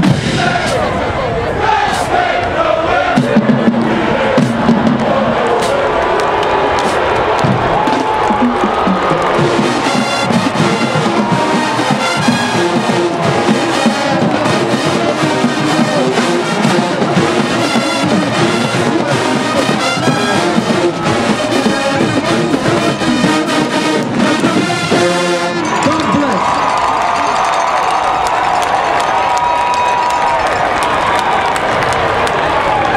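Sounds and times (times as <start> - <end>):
drums: 0.0 - 2.2, 3.0 - 30.4
marching band brass: 0.0 - 32.9.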